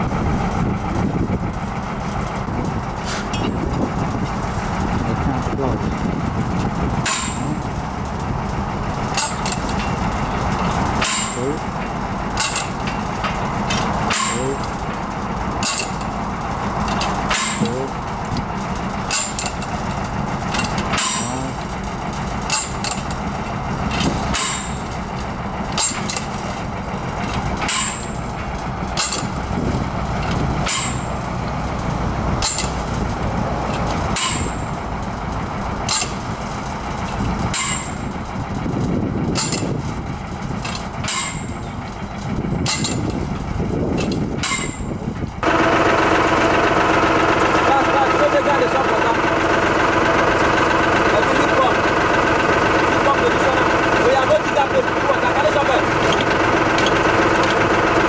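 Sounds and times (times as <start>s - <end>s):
winch engine running: 0.0s - 58.0s
drilling tool clanking: 1.5s - 58.0s.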